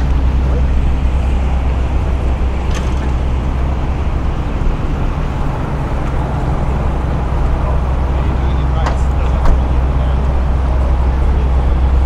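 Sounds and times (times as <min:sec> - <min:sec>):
city noise: 0:00.0 - 0:12.0
engine idling: 0:00.0 - 0:12.0.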